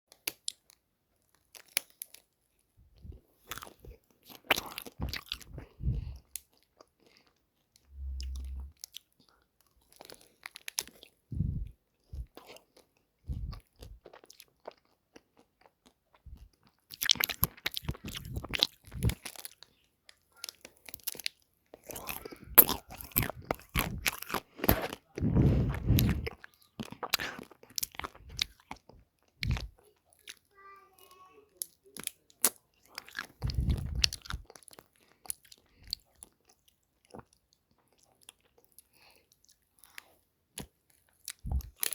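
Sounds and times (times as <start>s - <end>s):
crunching bites and chewing: 0.1s - 2.3s, 3.0s - 7.4s, 9.8s - 30.4s, 31.6s - 41.9s.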